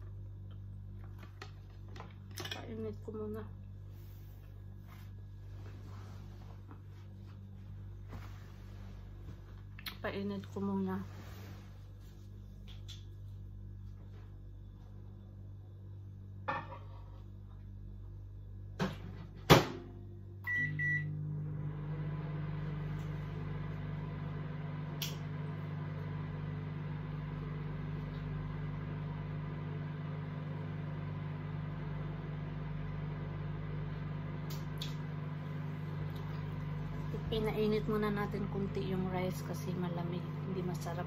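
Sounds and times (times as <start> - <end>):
microwave oven humming: 0.0 - 41.0.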